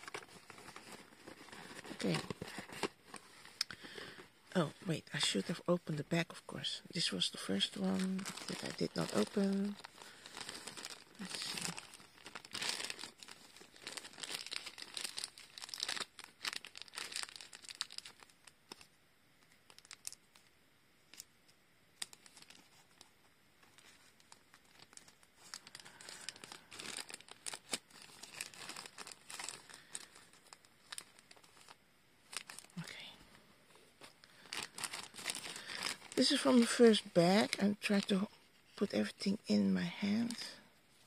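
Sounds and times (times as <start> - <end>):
plastic bag crinkling: 0.0 - 5.5, 6.6 - 18.9, 19.6 - 20.5, 22.0 - 33.2, 34.0 - 39.3.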